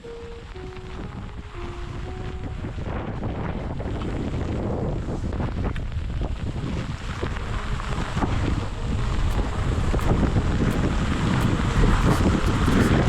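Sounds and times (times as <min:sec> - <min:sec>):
wind buffeting microphone: 0:00.5 - 0:13.0.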